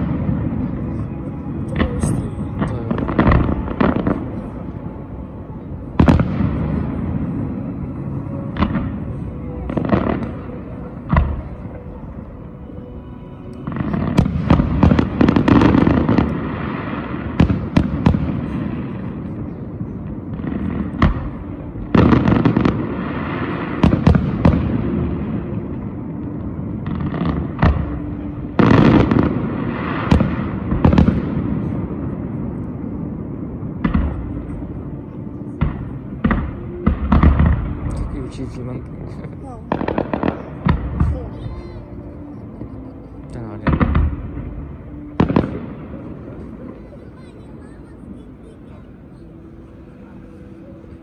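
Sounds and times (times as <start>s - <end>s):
fireworks bangs and crackling: 0.0s - 12.5s, 13.6s - 49.6s.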